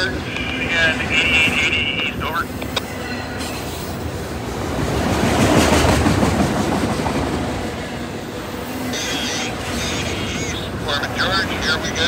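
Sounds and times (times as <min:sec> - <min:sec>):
freight train wheels rumbling and clicking: 0:00.0 - 0:12.0.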